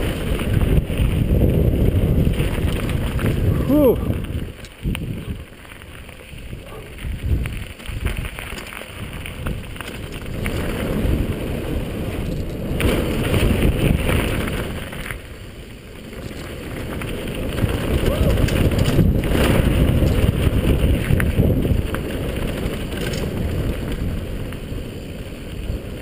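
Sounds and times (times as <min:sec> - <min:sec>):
mountain bike tyre rumble and rattling: 0:00.0 - 0:26.0
wind buffeting microphone: 0:00.0 - 0:26.0.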